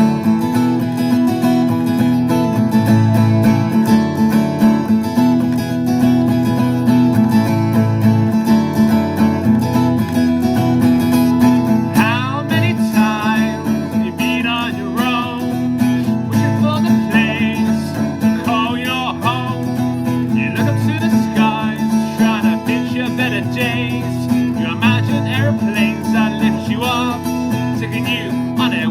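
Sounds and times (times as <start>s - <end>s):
acoustic guitar strummed chords: 0.0s - 28.9s
wavering guitar melody: 0.0s - 28.9s.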